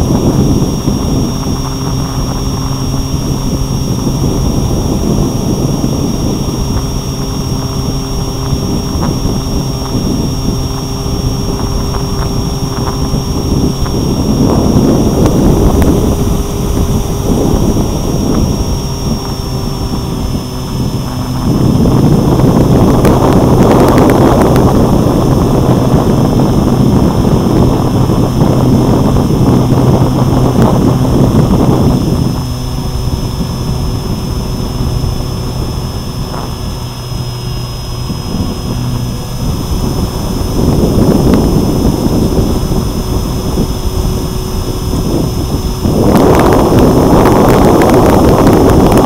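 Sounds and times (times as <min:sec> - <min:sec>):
electric motor and propeller whine: 0:00.0 - 0:49.0
wind buffeting on microphone: 0:00.0 - 0:49.0.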